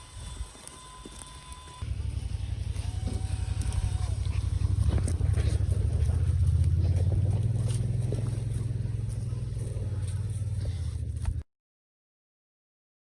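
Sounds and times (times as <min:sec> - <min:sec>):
large engine throbbing: 0:00.0 - 0:11.4.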